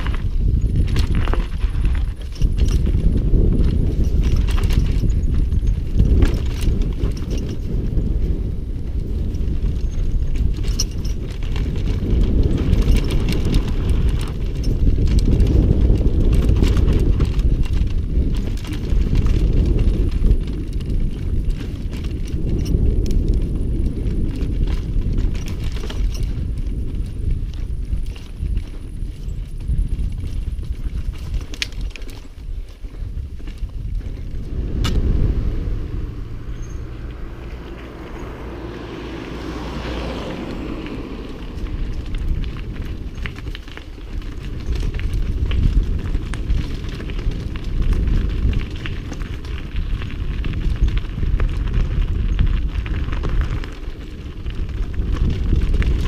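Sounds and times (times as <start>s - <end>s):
mountain bike rumbling and rattling: 0.0s - 56.0s.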